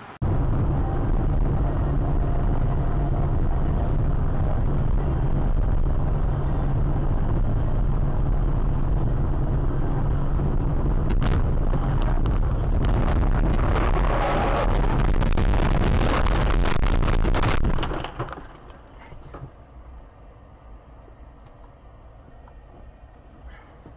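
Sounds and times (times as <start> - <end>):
car engine and road noise: 0.0 - 23.9.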